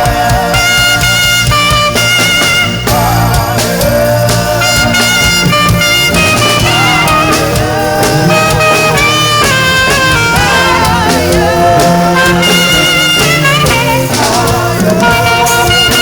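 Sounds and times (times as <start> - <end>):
band with bass and drums: 0.0 - 16.0
saxophone gospel melody: 0.0 - 16.0.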